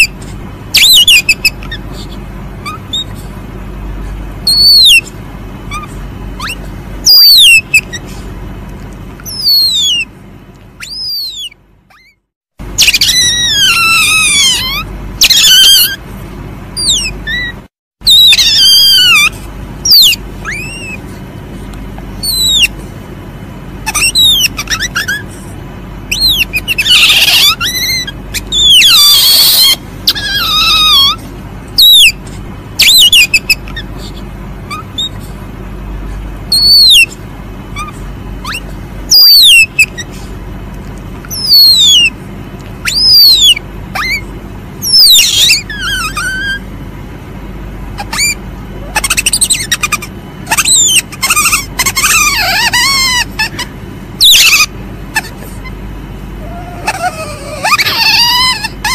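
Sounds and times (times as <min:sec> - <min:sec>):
civet high-pitched cries: 0:00.0 - 0:03.7, 0:04.3 - 0:08.3, 0:09.1 - 0:10.2, 0:10.8 - 0:16.1, 0:16.8 - 0:21.3, 0:21.9 - 0:22.9, 0:23.7 - 0:35.5, 0:36.5 - 0:40.4, 0:41.2 - 0:46.9, 0:47.8 - 0:58.9.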